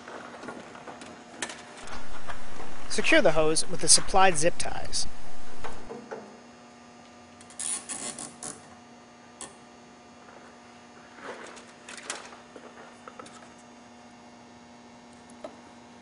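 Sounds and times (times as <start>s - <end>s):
faint steady hum: 0.1s - 16.0s.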